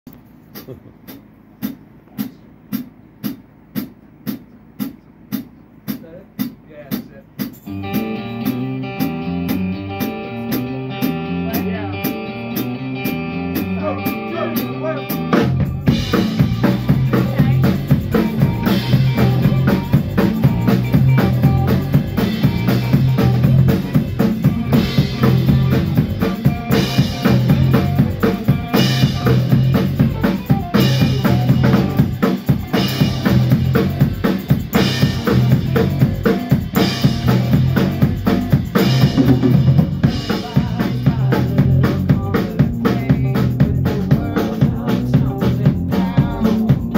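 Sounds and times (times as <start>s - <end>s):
bass guitar: 0.1s - 46.9s
drum kit beat: 0.1s - 46.9s
light ticking beat: 0.1s - 46.9s.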